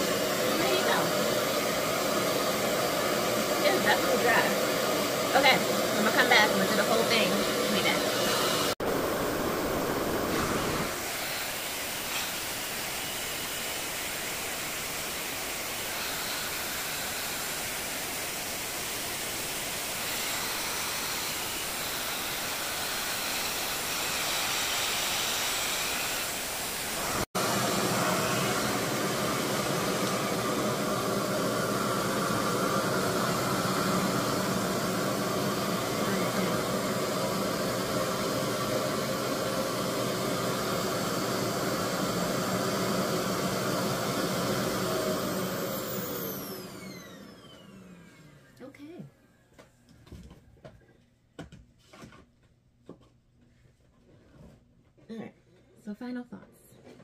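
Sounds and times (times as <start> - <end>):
blow dryer rushing air: 0.0 - 48.6.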